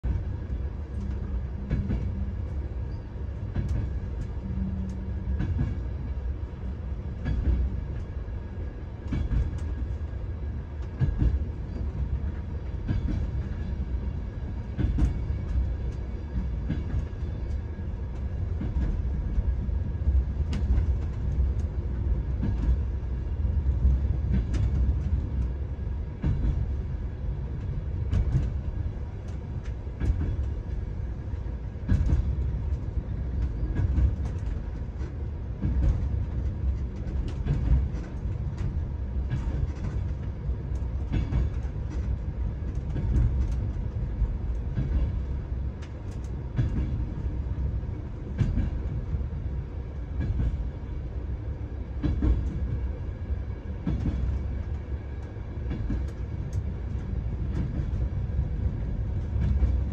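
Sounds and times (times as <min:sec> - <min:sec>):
train carriage low rumble: 0:00.0 - 0:59.9.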